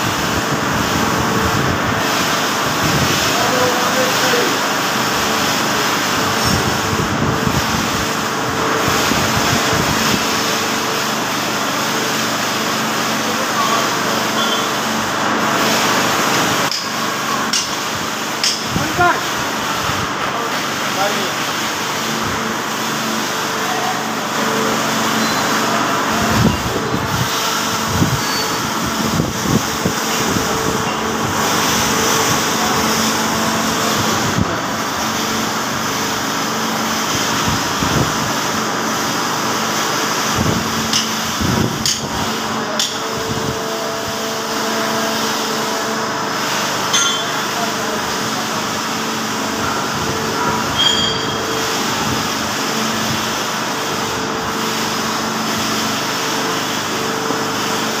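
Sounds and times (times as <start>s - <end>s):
machinery running: 0.0s - 58.0s.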